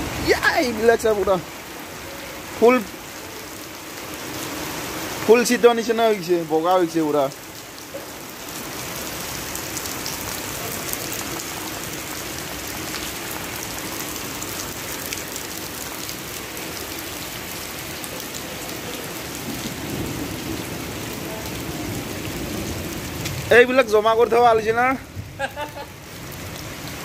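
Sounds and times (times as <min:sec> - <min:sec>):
rain falling on wet ground: 0:00.0 - 0:27.0.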